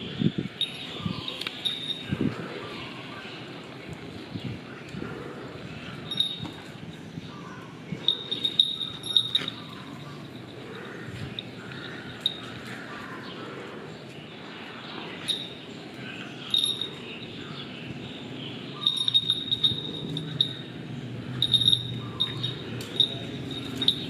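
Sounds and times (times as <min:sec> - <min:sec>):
low background murmur: 0:00.4 - 0:24.0.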